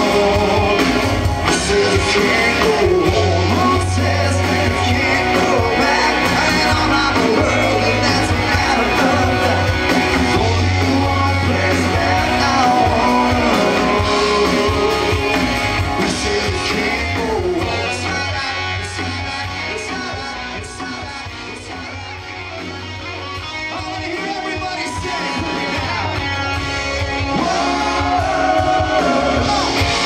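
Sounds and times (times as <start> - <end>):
lead singer singing: 0.0 - 30.0
live rock band playing: 0.0 - 30.0.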